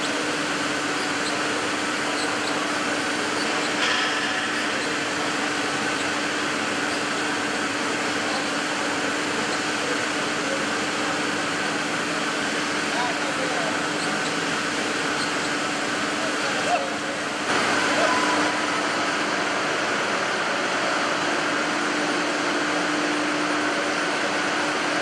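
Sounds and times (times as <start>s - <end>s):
machinery whirring and humming: 0.0s - 25.0s.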